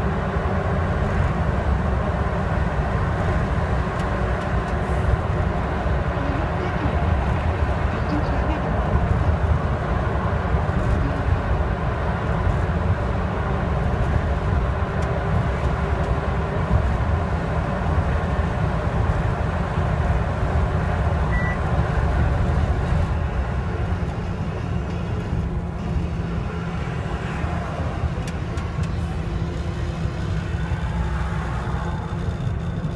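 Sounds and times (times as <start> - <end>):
road noise: 0.0 - 32.9
truck diesel engine drone: 0.0 - 32.9.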